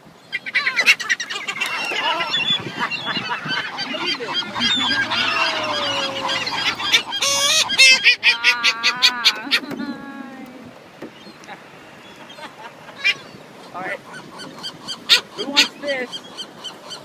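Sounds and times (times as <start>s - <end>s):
flock of seagulls calling: 0.0s - 17.0s.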